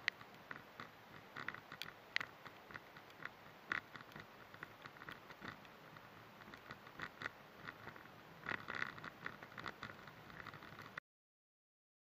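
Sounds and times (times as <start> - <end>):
faint hiss: 0.0 - 11.0
raindrops pattering on a shell: 0.0 - 11.0.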